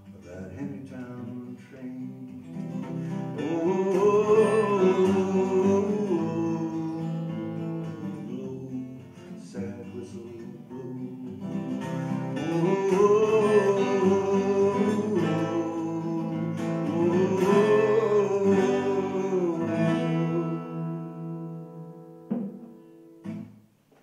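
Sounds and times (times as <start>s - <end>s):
wordless singing: 0.0s - 21.9s
acoustic guitar strumming: 0.0s - 23.9s.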